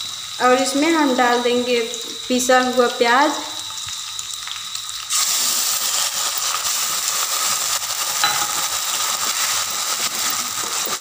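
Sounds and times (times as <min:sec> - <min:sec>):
onion paste sizzling in oil: 0:00.0 - 0:11.0.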